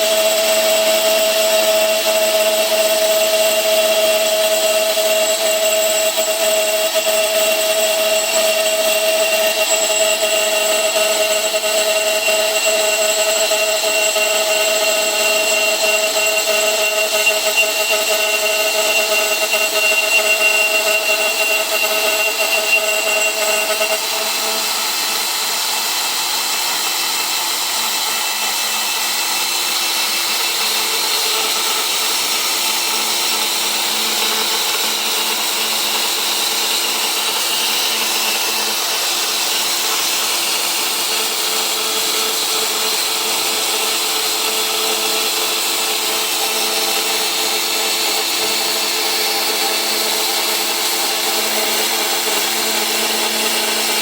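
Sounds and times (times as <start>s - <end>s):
tube cutter motor whine: 0.0s - 54.0s.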